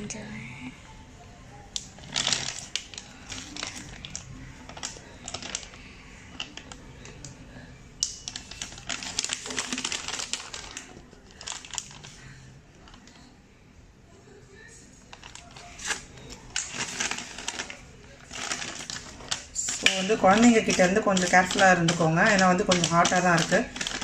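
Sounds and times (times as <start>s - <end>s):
plastic packet crinkling: 1.8s - 7.3s, 8.0s - 13.3s, 15.1s - 24.0s.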